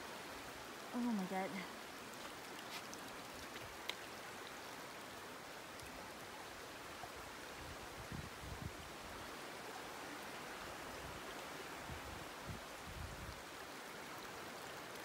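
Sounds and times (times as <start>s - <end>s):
stream rushing among boulders: 0.0s - 15.0s.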